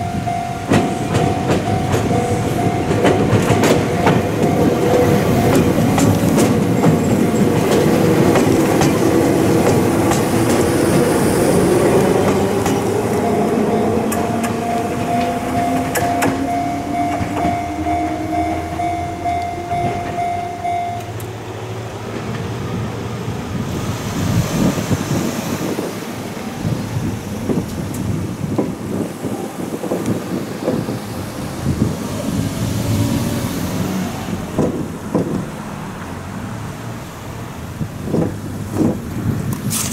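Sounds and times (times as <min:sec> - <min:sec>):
train wheels clacking on rails: 0:00.0 - 0:21.4, 0:22.0 - 0:35.7.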